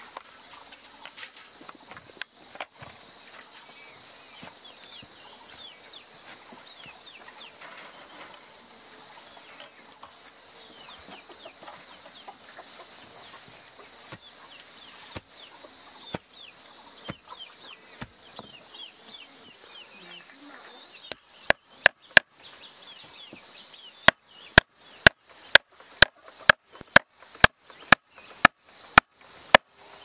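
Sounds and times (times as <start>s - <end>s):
chickens peeping and clucking: 0.0s - 30.0s.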